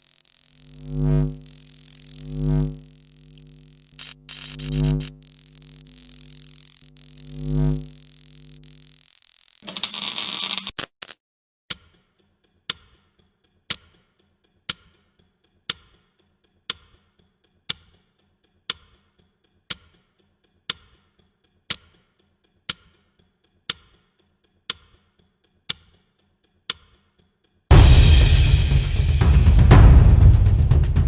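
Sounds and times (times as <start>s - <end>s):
clock ticking: 0.0s - 9.6s, 11.7s - 28.8s.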